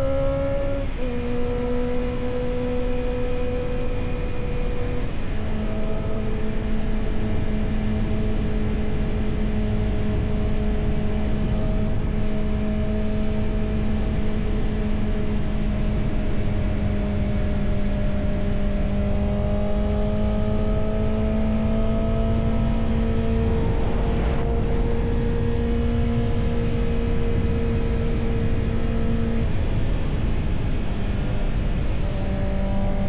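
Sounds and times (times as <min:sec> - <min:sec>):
motorcycle engine cruising: 0:00.0 - 0:33.0
wind and road noise: 0:00.0 - 0:33.0.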